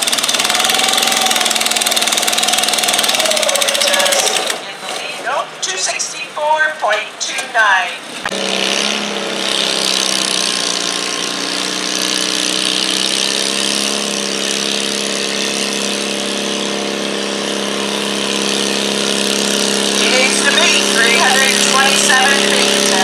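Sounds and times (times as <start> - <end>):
small engine at full throttle: 0.0 - 4.6, 8.3 - 23.0.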